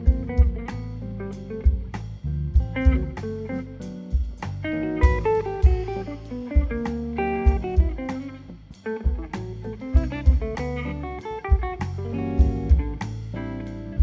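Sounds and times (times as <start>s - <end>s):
guitar melody: 0.0s - 14.0s
kick drum and cymbals: 0.0s - 14.0s
walking bass line: 0.0s - 14.0s.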